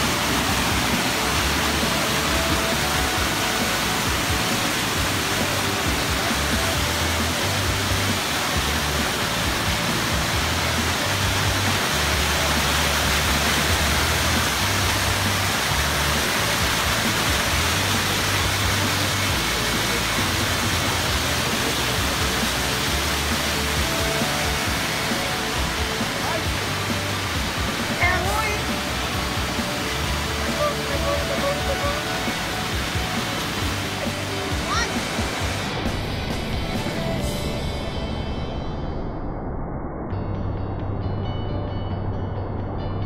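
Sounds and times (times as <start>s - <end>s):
waterfall and stream over rocks: 0.0s - 37.5s.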